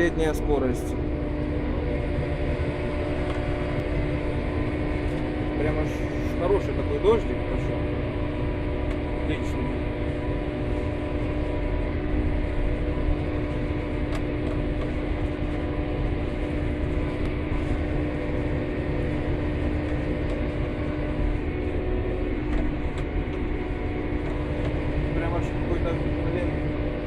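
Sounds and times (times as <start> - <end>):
vehicle engine drone: 0.0 - 27.0.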